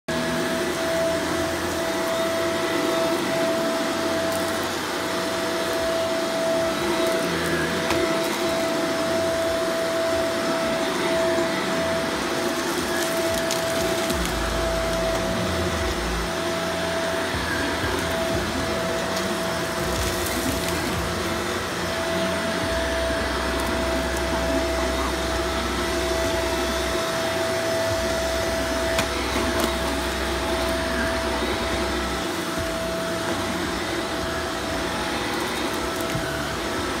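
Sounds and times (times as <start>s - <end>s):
vacuum cleaner running: 0.1s - 37.0s.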